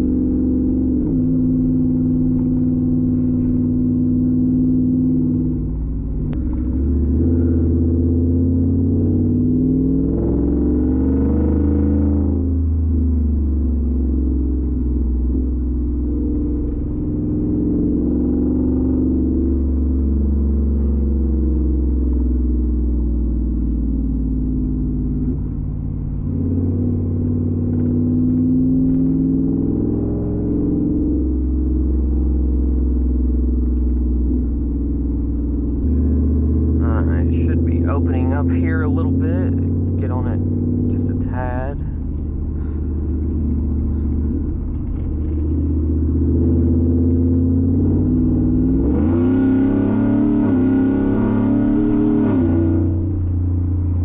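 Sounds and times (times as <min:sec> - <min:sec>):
truck exhaust drone in cab: 0:00.0 - 0:54.0.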